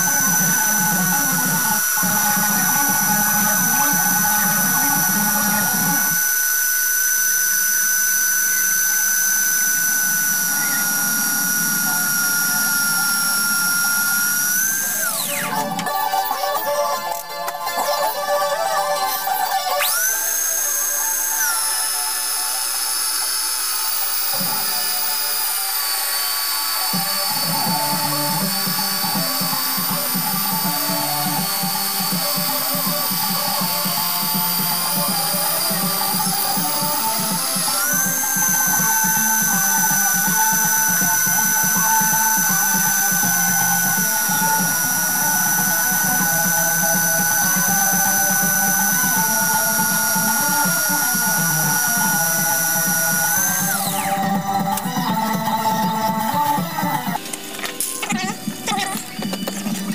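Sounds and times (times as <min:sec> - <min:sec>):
lathe cutter low rumble: 0:00.0 - 0:15.9, 0:19.8 - 0:55.6
electric drill high whine: 0:00.0 - 0:59.9.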